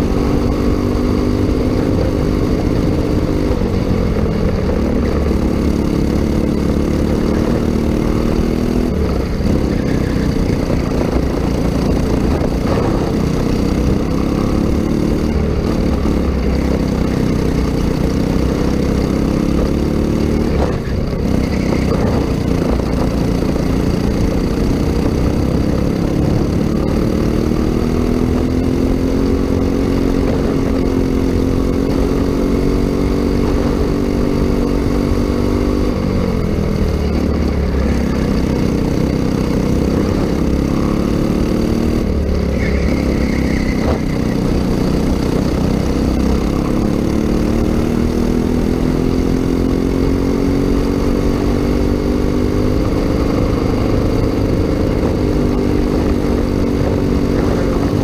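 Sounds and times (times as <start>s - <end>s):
go-kart engine accelerating: 0.0s - 58.0s.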